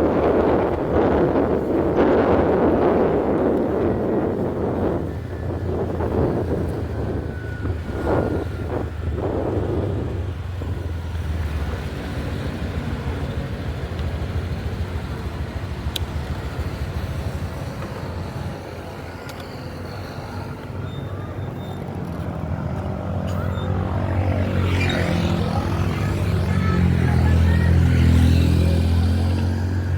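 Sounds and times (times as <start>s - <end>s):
road traffic: 0.0s - 29.9s
vehicle engine running: 0.0s - 29.9s.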